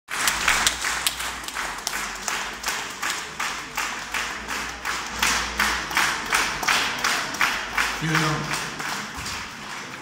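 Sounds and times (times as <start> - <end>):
audience clapping in rhythm: 0.1 - 10.0.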